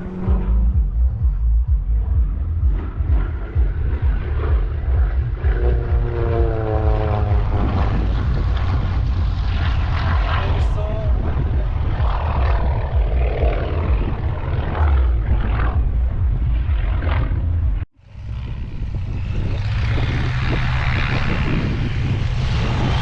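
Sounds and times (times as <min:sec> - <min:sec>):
propeller aircraft engine: 0:00.0 - 0:23.0.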